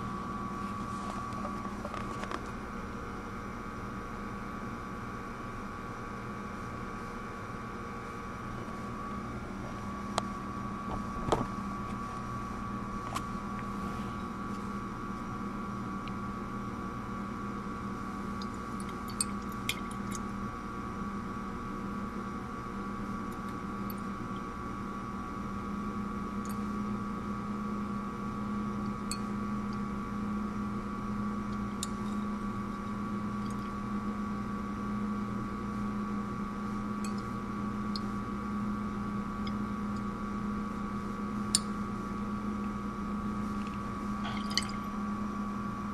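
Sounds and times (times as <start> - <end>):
mechanical hum: 0.0 - 45.9.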